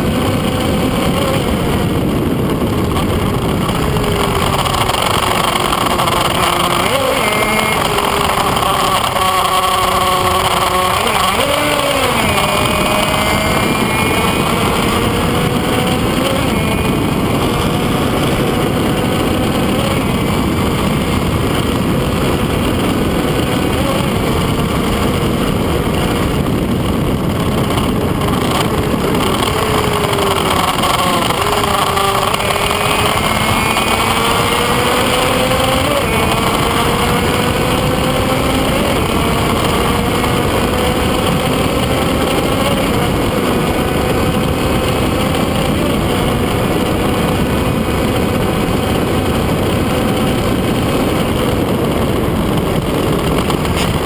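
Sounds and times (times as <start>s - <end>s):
motorcycle engine: 0.0s - 54.0s
wind rush over microphone: 0.0s - 54.0s.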